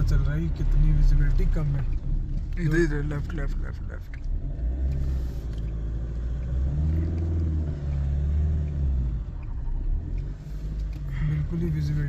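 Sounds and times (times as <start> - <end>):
car engine running: 0.0 - 12.0
road rumble: 0.0 - 12.0.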